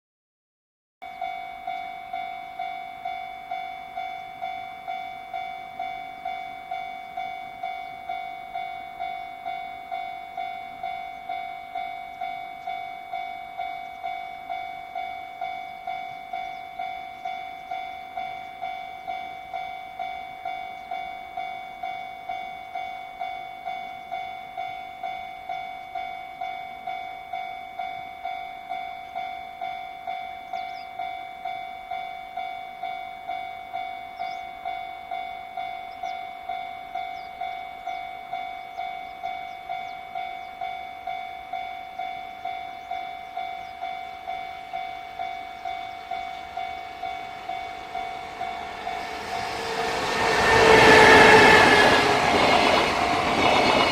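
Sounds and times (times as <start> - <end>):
level-crossing warning bell: 1.0 - 53.9.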